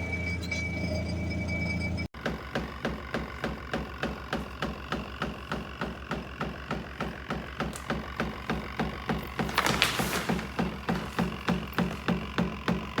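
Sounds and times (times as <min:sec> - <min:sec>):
washing machine motor hum: 0:01.0 - 0:13.0.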